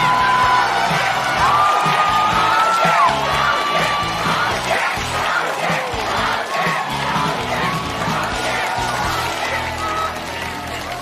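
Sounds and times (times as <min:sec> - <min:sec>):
audience cheering and clapping: 0:00.0 - 0:11.0
background music: 0:00.0 - 0:11.0
crowd shouting: 0:00.0 - 0:11.0.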